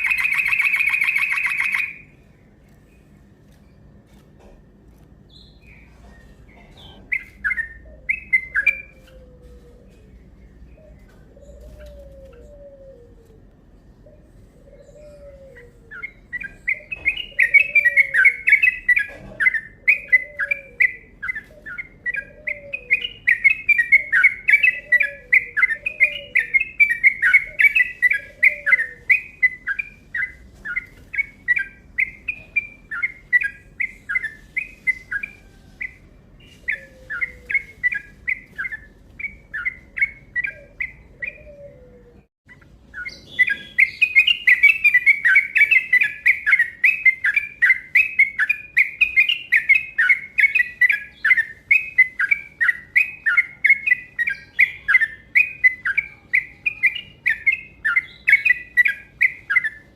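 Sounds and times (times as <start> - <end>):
bird singing chattering notes: 0.0 - 9.2, 9.8 - 41.7, 42.5 - 59.9.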